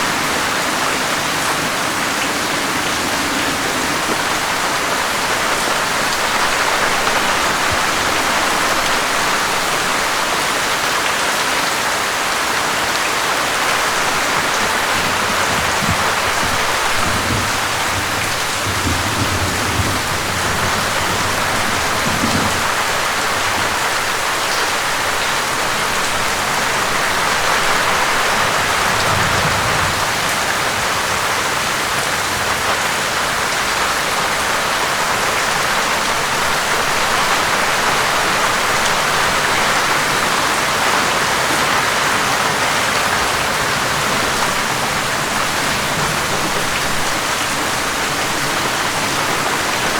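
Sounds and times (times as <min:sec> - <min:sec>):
heavy rain pattering: 0:00.0 - 0:49.9.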